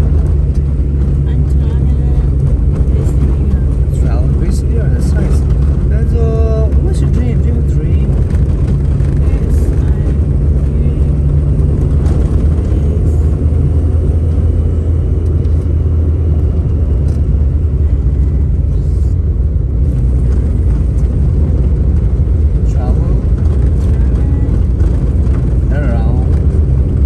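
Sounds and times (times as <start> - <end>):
car engine rumble: 0.0 - 27.0
tyre noise on rough road: 0.0 - 27.0.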